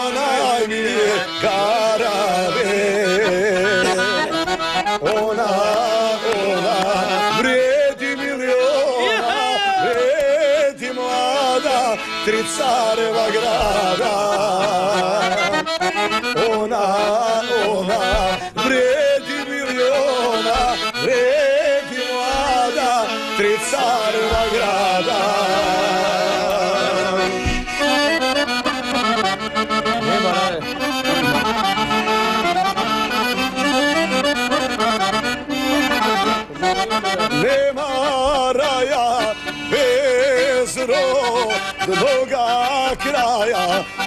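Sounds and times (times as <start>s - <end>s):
accordion playing folk melody: 0.0s - 44.0s.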